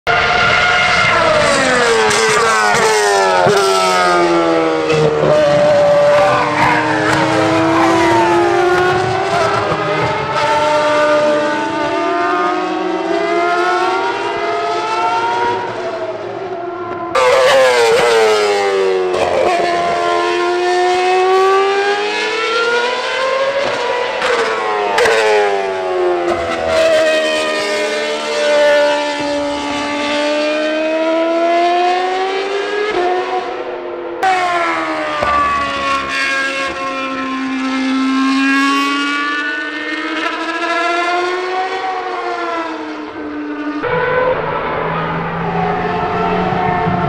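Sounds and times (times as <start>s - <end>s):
racing car engines revving: 0.1s - 47.0s.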